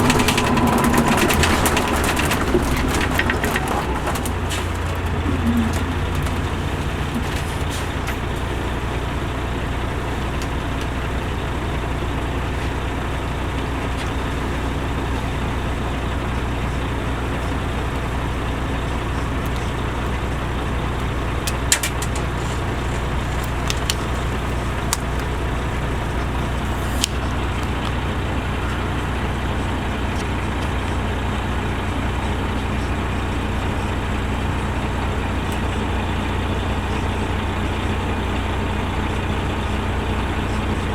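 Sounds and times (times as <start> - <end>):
diesel bus engine droning: 0.0 - 40.9.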